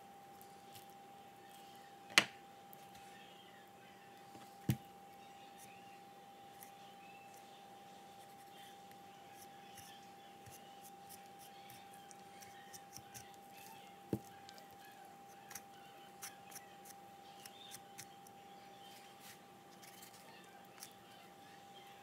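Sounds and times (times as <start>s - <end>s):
faint high hum: 0.0s - 22.0s.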